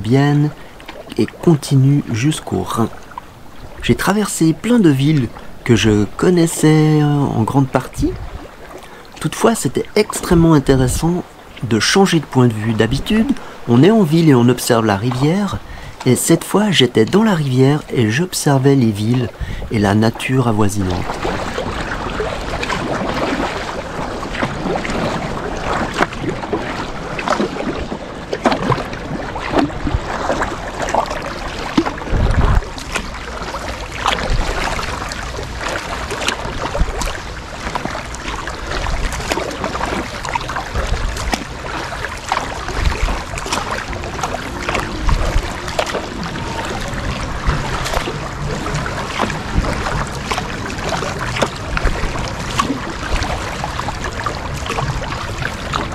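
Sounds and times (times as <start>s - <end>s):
paddle splashing in water: 0.0s - 55.9s
wind buffeting microphone: 2.9s - 9.2s, 9.8s - 14.4s, 19.1s - 55.9s.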